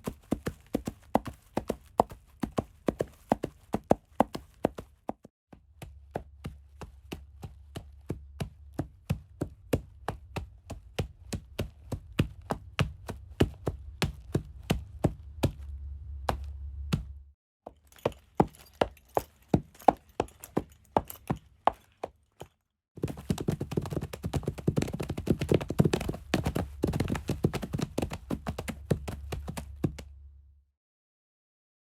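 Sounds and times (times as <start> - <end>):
horse hooves clip-clopping: 0.0 - 30.1.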